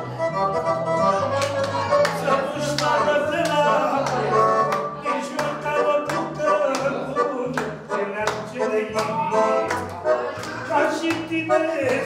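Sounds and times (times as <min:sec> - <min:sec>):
electronic accordion folk tune: 0:00.0 - 0:12.0
hands clapping along: 0:01.3 - 0:12.0.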